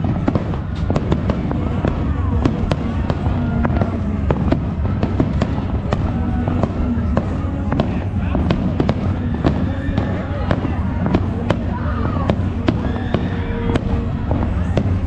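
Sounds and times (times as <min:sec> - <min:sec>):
fireworks bangs and crackles: 0:00.0 - 0:15.0
low rumble: 0:00.0 - 0:15.0.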